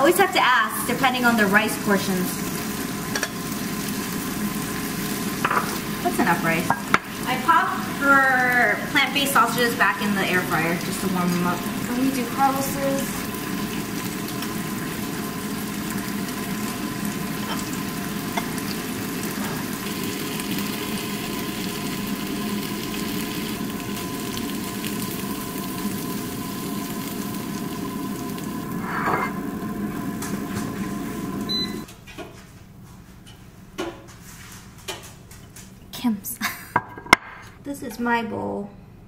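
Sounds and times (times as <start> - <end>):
kitchen appliance fan running: 0.0 - 38.7.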